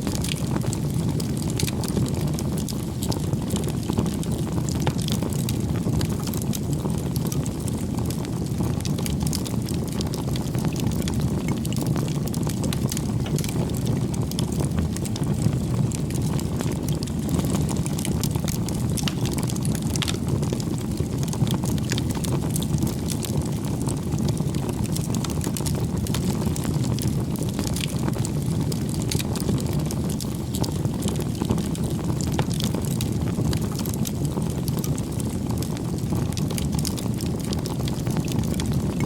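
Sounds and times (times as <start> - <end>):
bonfire flames rushing: 0.0 - 39.0
burning wood crackling and popping: 0.0 - 39.0.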